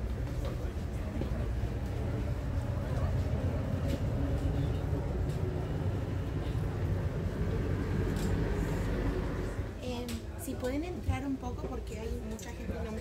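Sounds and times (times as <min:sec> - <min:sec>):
low rumble of ship machinery: 0:00.0 - 0:13.0.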